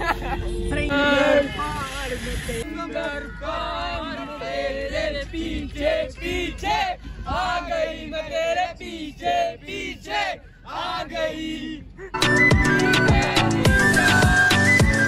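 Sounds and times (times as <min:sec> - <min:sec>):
young men singing together: 0:00.7 - 0:11.9, 0:13.0 - 0:14.5.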